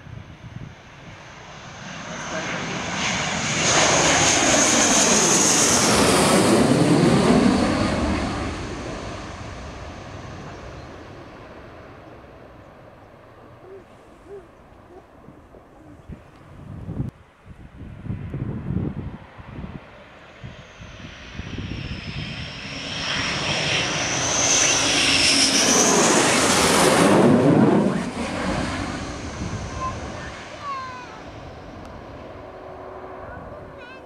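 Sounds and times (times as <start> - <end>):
jet passing overhead: 0.0 - 17.1, 17.7 - 34.0.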